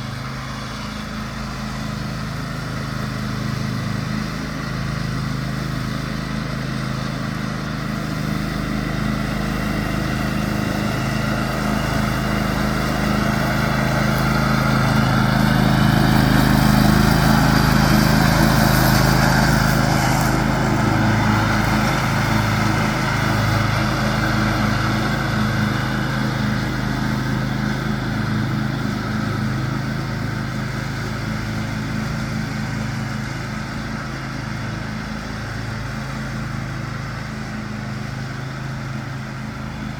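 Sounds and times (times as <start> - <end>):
riding lawn mower running: 0.0 - 39.9.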